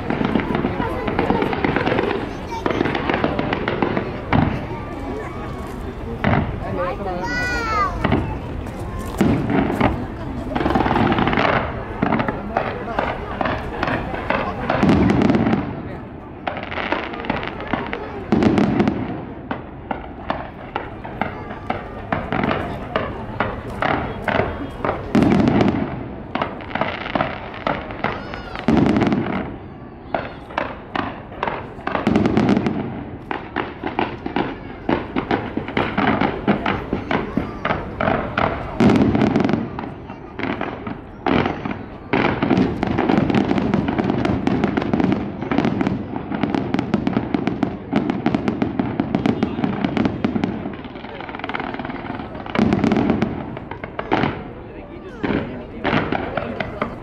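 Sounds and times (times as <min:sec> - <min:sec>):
deep firework booms: 0:00.0 - 0:57.0
fireworks bangs and crackles: 0:00.0 - 0:57.0.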